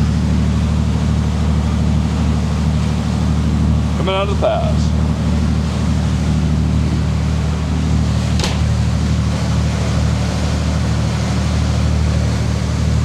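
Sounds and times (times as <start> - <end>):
boat diesel engines droning: 0.0 - 13.0.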